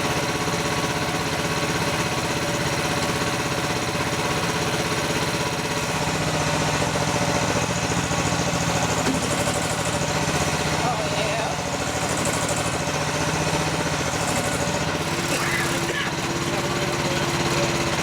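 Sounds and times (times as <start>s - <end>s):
excavator engine idling: 0.0s - 18.0s.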